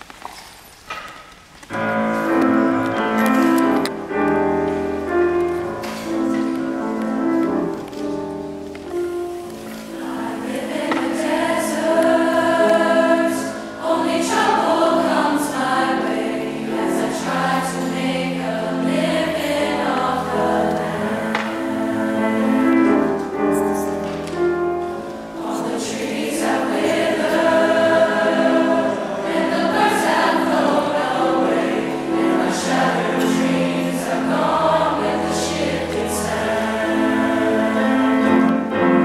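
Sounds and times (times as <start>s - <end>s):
mixed choir singing in harmony: 1.7s - 39.0s.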